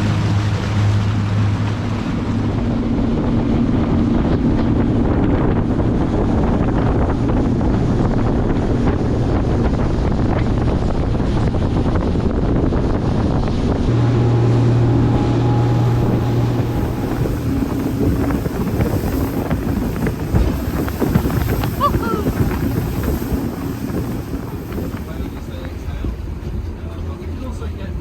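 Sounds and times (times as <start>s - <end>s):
boat motor running: 0.0s - 28.0s
wind buffeting microphone: 0.0s - 28.0s.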